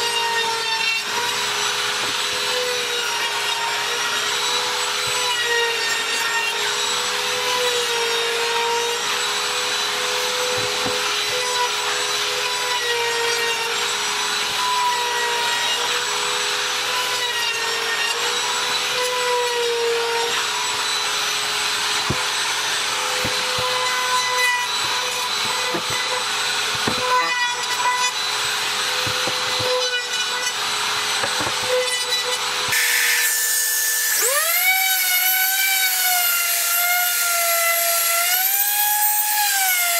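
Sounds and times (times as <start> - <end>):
router whining cutting wood: 0.0 - 39.9.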